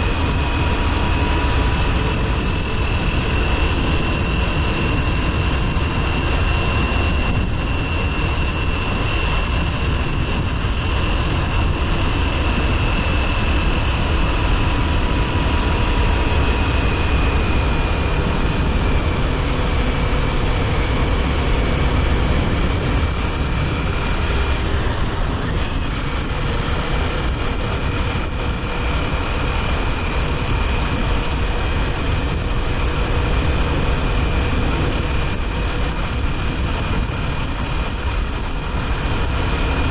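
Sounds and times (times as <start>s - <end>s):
low rushing rumble: 0.0s - 39.9s.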